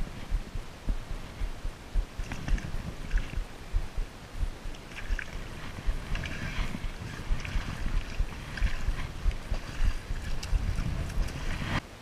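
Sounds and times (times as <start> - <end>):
water lapping at shore: 0.0 - 11.8
wind buffeting microphone: 0.0 - 11.8.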